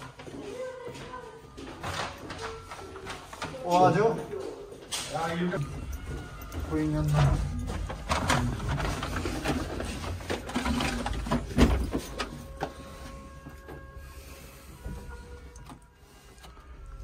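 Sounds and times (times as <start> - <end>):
people shuffling knocks and rustling: 0.0 - 16.8.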